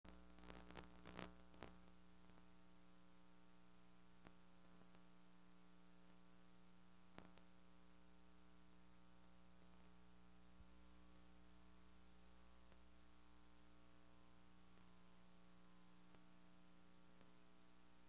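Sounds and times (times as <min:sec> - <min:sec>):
faint electrical hum and hiss: 0:00.1 - 0:18.0.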